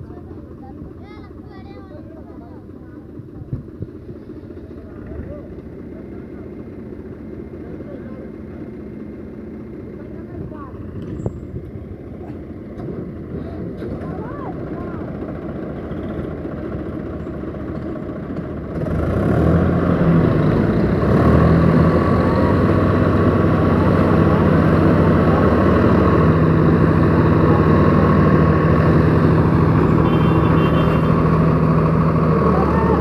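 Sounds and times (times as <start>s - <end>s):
second tractor engine running: 0.0s - 33.0s
tractor diesel engine revving: 3.9s - 33.0s.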